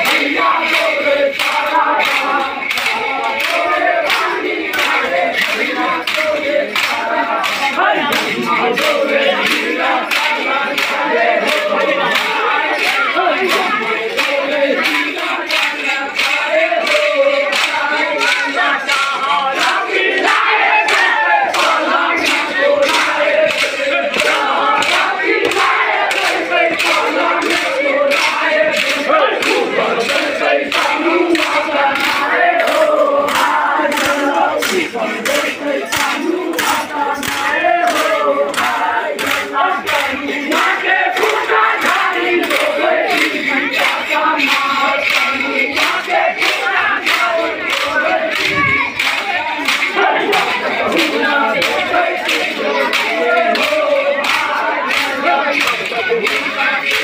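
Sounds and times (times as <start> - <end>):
crowd of men chanting: 0.0 - 57.0.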